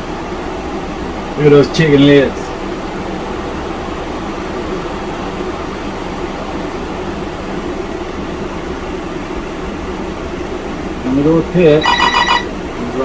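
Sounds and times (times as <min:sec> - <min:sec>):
fans whirring: 0:00.0 - 0:13.0.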